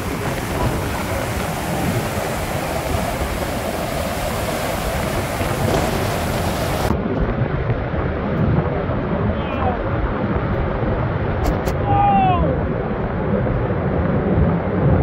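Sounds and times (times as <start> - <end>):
deep rumble: 0.0 - 15.0
flood water rushing roar: 0.0 - 15.0.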